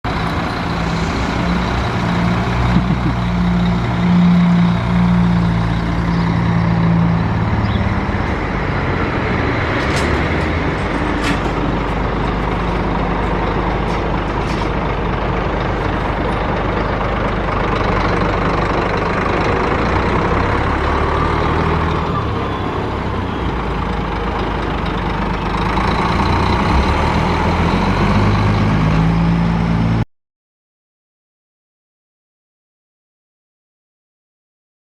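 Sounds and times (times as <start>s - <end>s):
diesel coach engine running: 0.0s - 30.0s.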